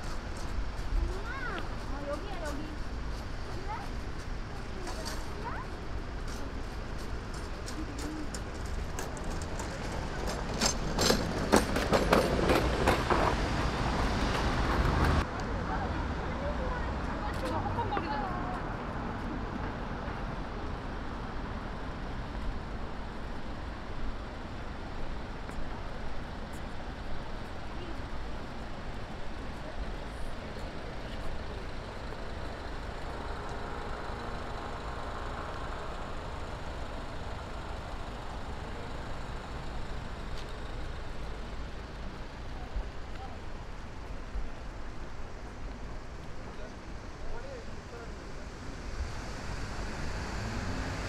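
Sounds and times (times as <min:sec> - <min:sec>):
city road traffic rumble: 0:00.0 - 0:51.0.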